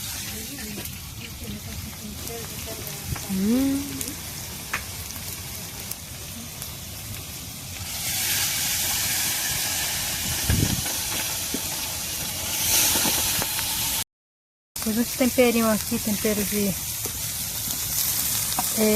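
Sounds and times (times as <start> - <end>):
food sizzling in a pan: 0.0 - 14.0, 14.8 - 18.9.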